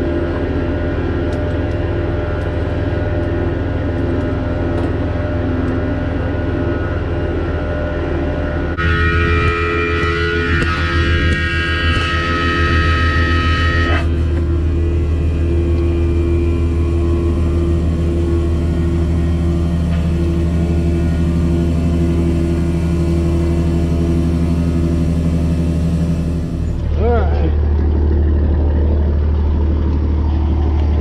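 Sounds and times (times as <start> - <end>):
diesel engine idling: 0.0 - 31.0
high-pitched whine: 0.0 - 31.0.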